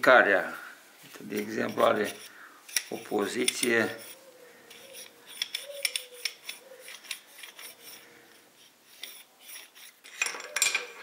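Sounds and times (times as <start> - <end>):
metallic clicks and scrapes: 1.3 - 8.0, 8.6 - 11.0.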